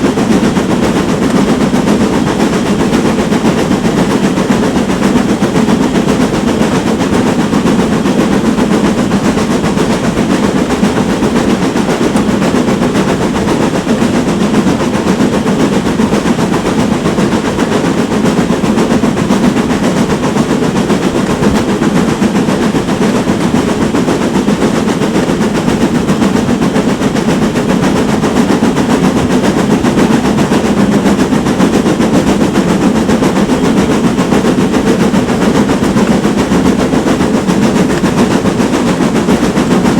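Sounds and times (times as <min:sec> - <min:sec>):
steam train clattering: 0:00.0 - 0:39.9.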